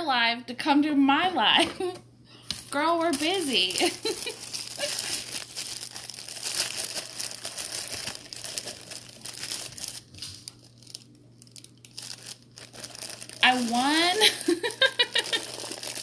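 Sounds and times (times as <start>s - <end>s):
packaging crinkling by hand: 2.5s - 16.0s.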